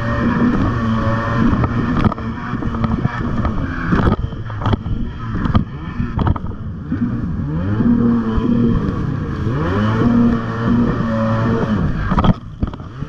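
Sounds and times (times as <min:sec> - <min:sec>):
hull slapping water: 0:00.0 - 0:13.0
jet ski engine under throttle: 0:00.0 - 0:13.0.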